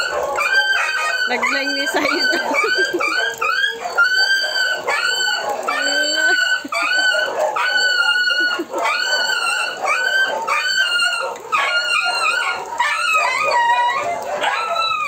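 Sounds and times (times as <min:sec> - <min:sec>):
dog whining: 0:00.0 - 0:15.0.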